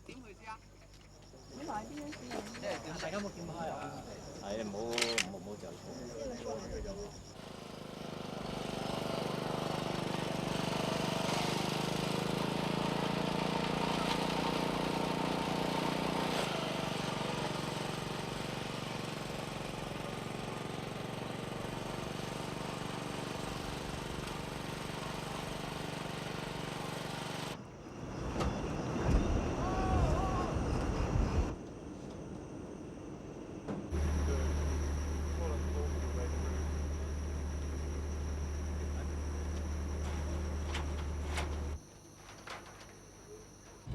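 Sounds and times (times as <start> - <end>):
engine running with even pulsing: 0.2 - 43.9.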